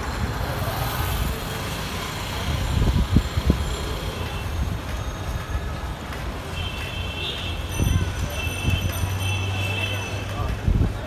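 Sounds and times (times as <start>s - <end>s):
road travel rumble: 0.0s - 11.0s.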